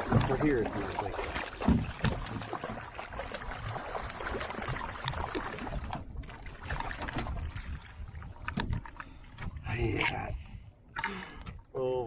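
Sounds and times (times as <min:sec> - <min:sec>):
water splashes: 0:00.0 - 0:11.9.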